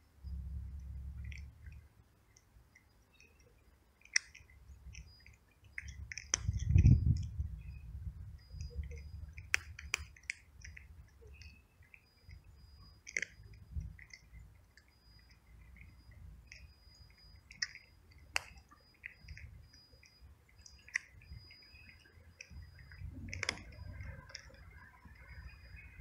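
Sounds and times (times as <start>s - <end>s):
cat crunching dry kibble: 0.5s - 1.8s, 3.9s - 7.5s, 8.2s - 19.9s, 20.5s - 25.4s
sharp clicks: 0.5s - 26.0s.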